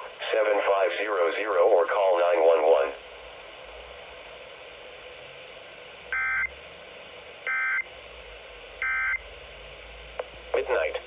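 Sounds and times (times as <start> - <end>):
radio hiss: 0.0 - 6.1, 8.1 - 11.0.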